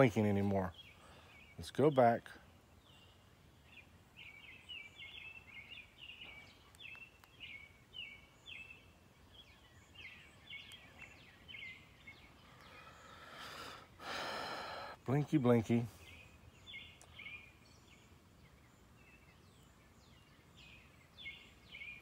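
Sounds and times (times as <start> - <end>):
faint bird chirping: 0.0 - 22.0.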